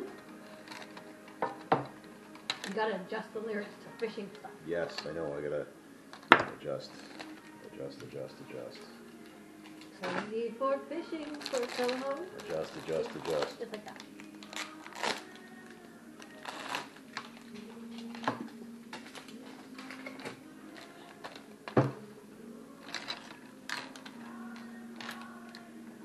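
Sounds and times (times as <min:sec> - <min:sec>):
packaging clicks and crinkles: 0:00.0 - 0:02.9, 0:06.1 - 0:10.3, 0:11.1 - 0:22.1, 0:22.7 - 0:25.8.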